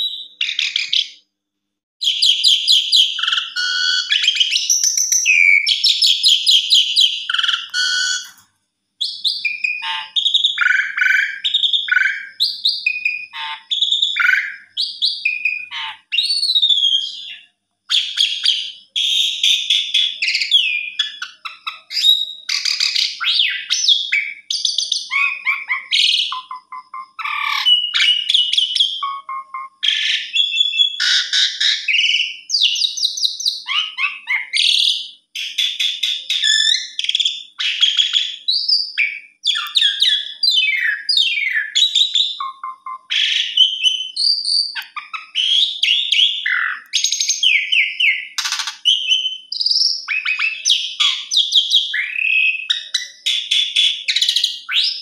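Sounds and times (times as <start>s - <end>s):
starling singing: 0.0s - 1.2s, 2.0s - 8.4s, 9.0s - 55.0s.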